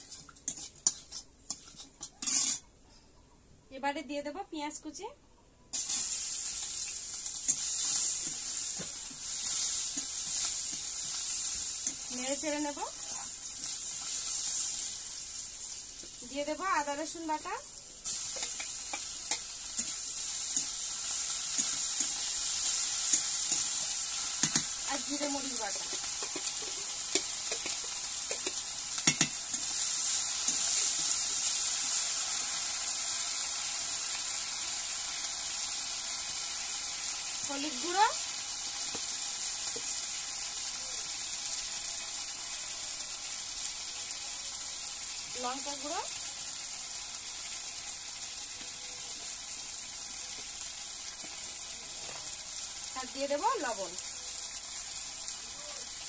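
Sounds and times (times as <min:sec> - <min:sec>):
onions sizzling in hot oil: 0:00.0 - 0:02.6, 0:05.7 - 0:56.0.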